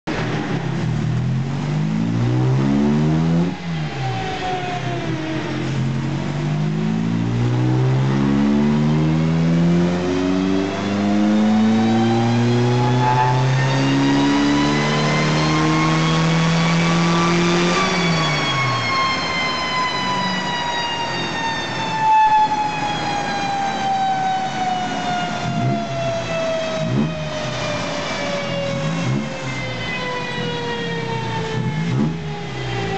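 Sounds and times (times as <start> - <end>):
car engine revving: 0.1 - 19.5, 24.7 - 32.9
whine rising and falling: 0.1 - 32.9.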